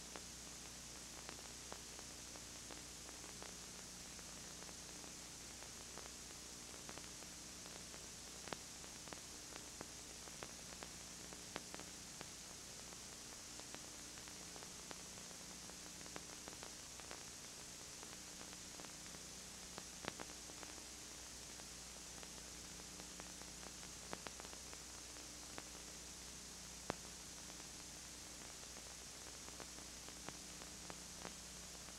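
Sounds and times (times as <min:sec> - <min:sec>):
low mains hum: 0:00.0 - 0:31.9
tape hiss: 0:00.0 - 0:31.9.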